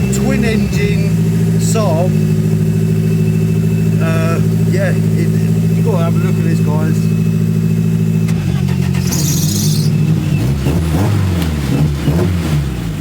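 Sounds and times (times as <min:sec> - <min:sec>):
engines idling and revving: 0:00.0 - 0:13.0.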